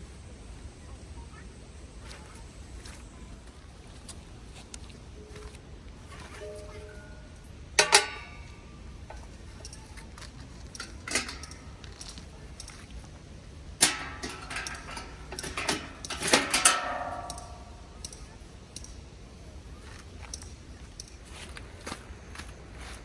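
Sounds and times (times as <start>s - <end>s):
cooking gear clinking and knocking: 2.0s - 23.0s.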